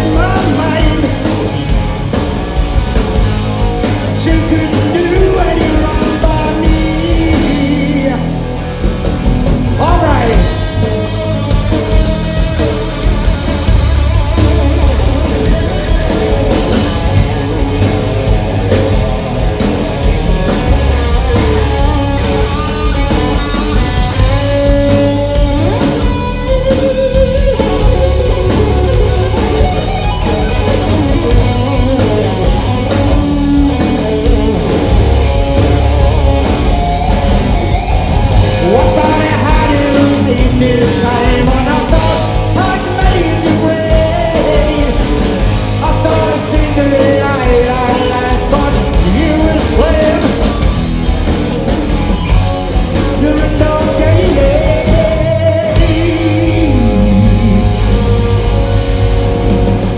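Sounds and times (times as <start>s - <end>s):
bass guitar: 0.0s - 59.9s
drums: 0.0s - 59.9s
electric guitar bending notes: 0.0s - 59.9s.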